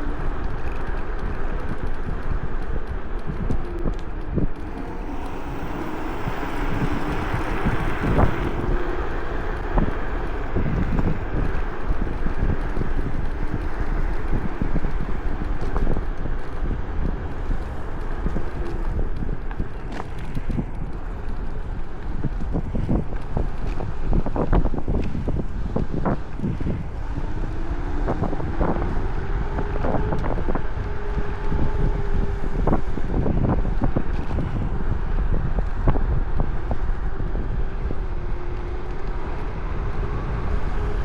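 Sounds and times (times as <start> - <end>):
wind buffeting microphone: 0.0 - 41.0
electric motor whine: 3.2 - 41.0.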